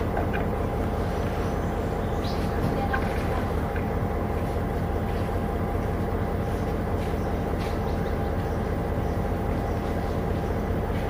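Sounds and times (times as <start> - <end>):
diesel train engine droning: 0.0 - 11.0.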